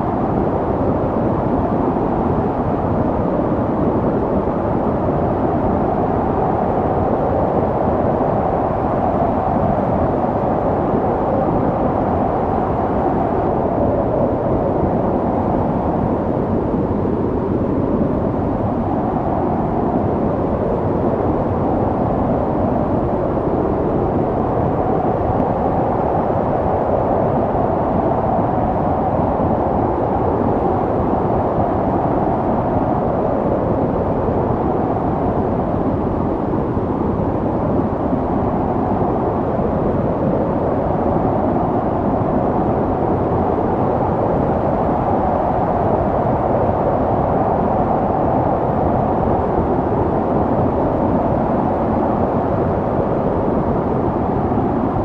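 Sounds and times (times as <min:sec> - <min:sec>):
snowstorm wind blowing: 0:00.0 - 0:55.0.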